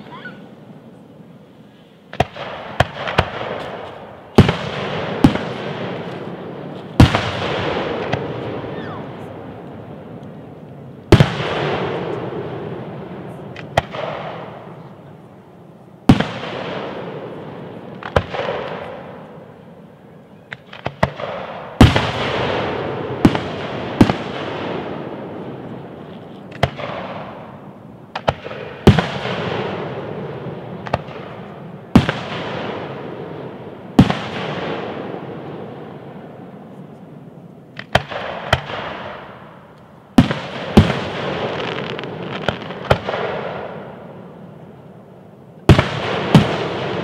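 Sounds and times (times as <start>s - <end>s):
fireworks banging: 0.0s - 47.0s.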